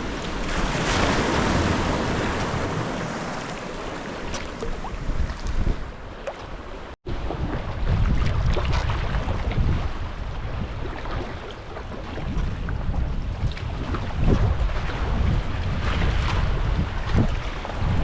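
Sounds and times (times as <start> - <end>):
water sloshing around kayak: 0.0 - 17.8
wind on microphone: 0.0 - 18.0.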